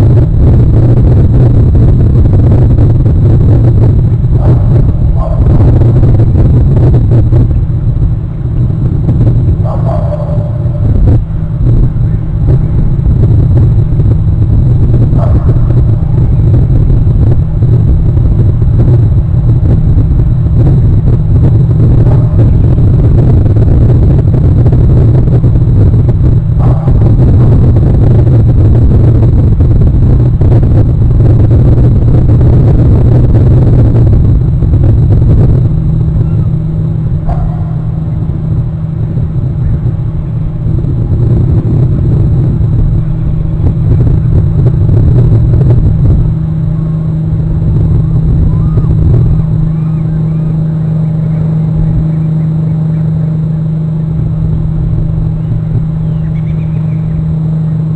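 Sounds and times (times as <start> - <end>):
loud low rumble: 0.0 - 57.9
wind buffeting microphone: 0.0 - 57.9.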